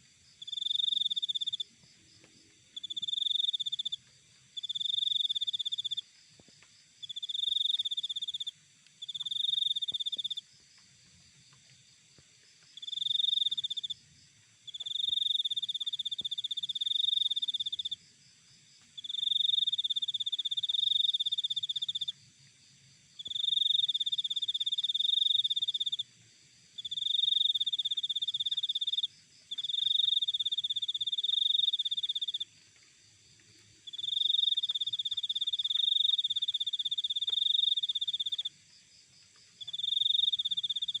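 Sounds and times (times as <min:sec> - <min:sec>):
cricket trilling: 0:00.2 - 0:41.0.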